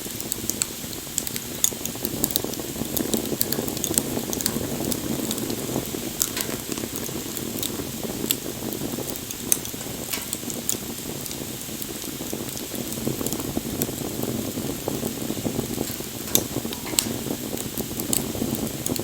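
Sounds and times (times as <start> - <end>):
bonfire flames rushing: 0.0 - 19.0
burning wood crackling: 0.0 - 19.0.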